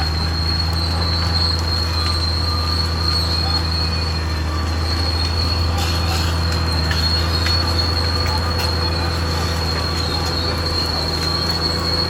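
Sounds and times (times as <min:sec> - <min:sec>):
bulldozer diesel engine running: 0:00.0 - 0:12.0
high-pitched whine: 0:00.0 - 0:12.0.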